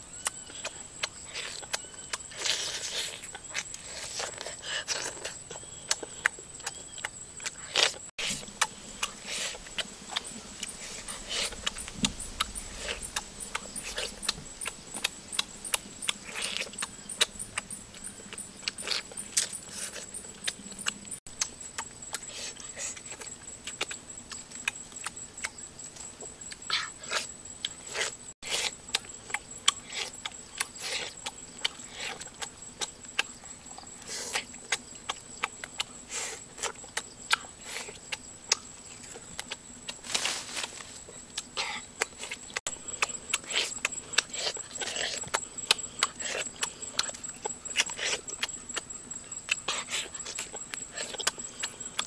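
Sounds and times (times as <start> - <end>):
wet chewing and lip-smacking: 0.2 - 40.0, 41.3 - 52.0.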